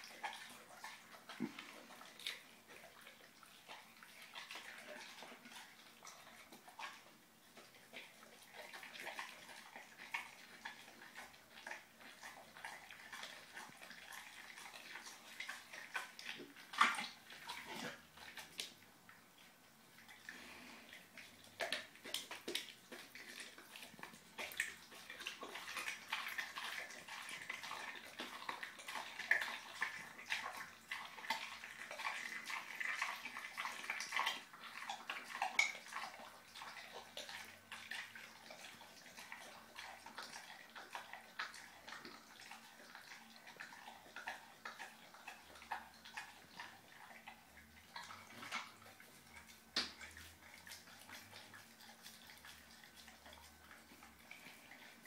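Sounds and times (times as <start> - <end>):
puppy chewing wet fish: 0.0 - 55.0.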